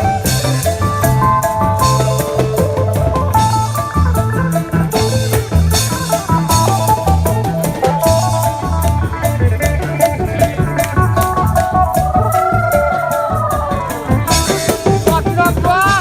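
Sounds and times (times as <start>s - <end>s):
drum kit: 0.0s - 16.0s
low bass line: 0.0s - 16.0s
plucked lute melody: 0.0s - 16.0s.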